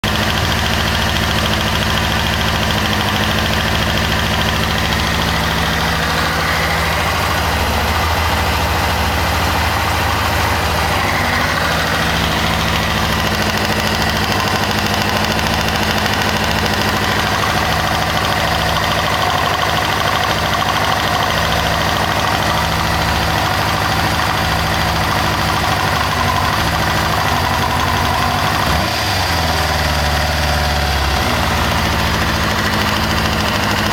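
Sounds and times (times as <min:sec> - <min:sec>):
engine ticking noise: 0:00.0 - 0:33.9
motorcycle engine idling: 0:00.0 - 0:33.9.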